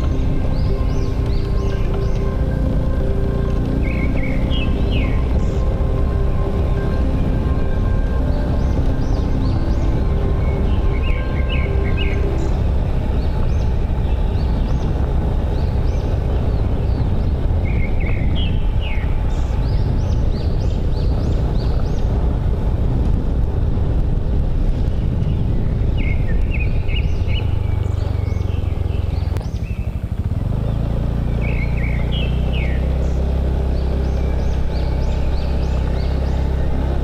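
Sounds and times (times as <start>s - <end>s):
birds chirping: 0.0s - 37.0s
motorbike engine running: 0.0s - 37.0s
wind and road rumble: 0.0s - 37.0s.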